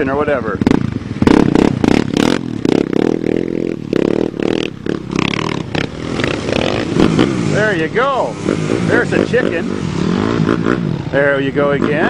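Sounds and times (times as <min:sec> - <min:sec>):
atv engines running: 0:00.0 - 0:12.0
quad engine revving hard: 0:00.6 - 0:12.0.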